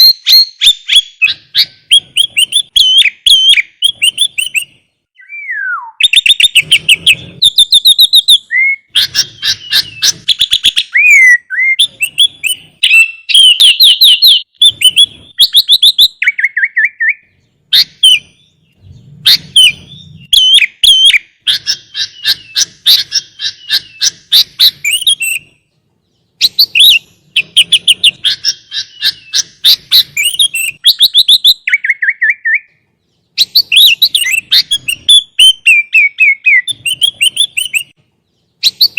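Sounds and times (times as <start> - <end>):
bird chattering trills and whistles: 0.0 - 38.9.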